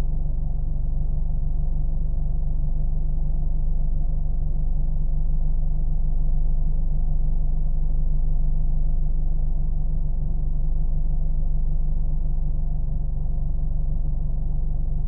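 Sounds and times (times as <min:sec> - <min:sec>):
deep car engine drone: 0:00.0 - 0:15.0.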